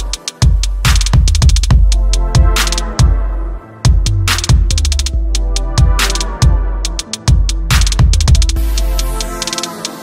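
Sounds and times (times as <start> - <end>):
rapid hi-hat ticks: 0.0 - 3.1, 3.9 - 10.0
deep bass: 0.0 - 9.5
electronic music: 0.0 - 10.0.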